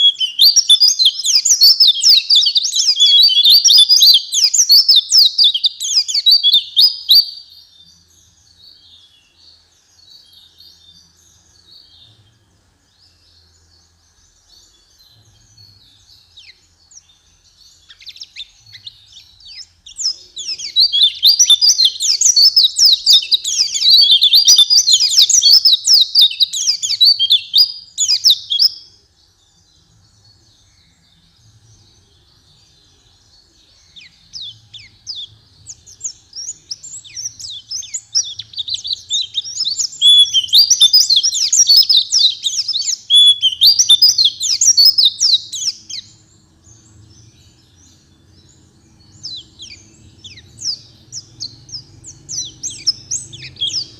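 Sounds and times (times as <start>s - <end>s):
bird twittering song: 0.0s - 53.9s
soft bird chatter: 0.0s - 53.9s.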